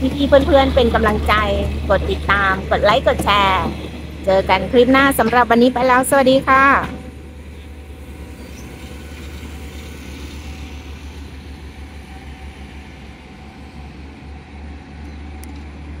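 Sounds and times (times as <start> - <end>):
diesel train rumbling: 0.0 - 16.0.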